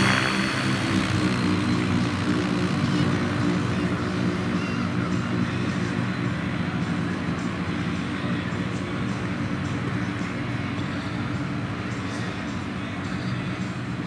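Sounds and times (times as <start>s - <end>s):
aircraft engine and propeller running: 0.0s - 14.0s.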